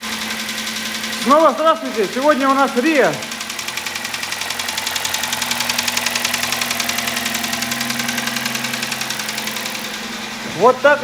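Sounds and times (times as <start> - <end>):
car engine idling with knock: 0.0 - 11.0.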